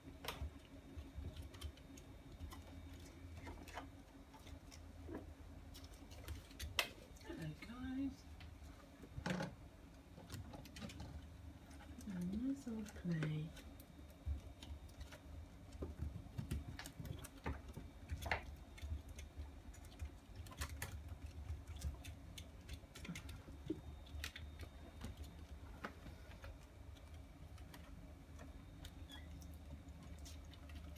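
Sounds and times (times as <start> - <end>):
kittens pawing and scratching: 0.0 - 30.9
low steady hum: 0.0 - 30.9.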